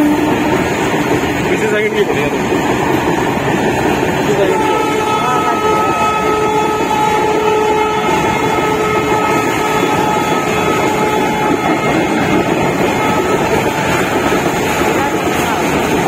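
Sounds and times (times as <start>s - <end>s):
freight wagons rumbling on rails: 0.0s - 16.0s.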